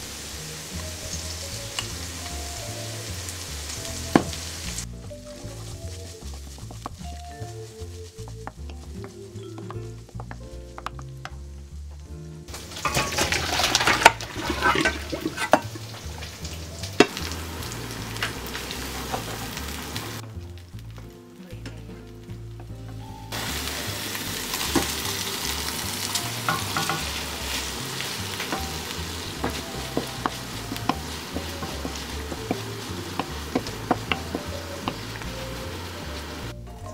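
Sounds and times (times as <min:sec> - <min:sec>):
background music: 0:00.0 - 0:36.9
food sizzling in a pan: 0:00.0 - 0:36.9
wooden spoon scraping: 0:01.0 - 0:20.2, 0:23.3 - 0:36.9.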